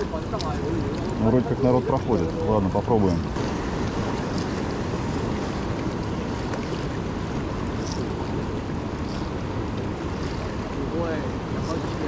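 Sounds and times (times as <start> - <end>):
choppy sea water: 0.0 - 12.0
wind buffeting microphone: 0.0 - 12.0.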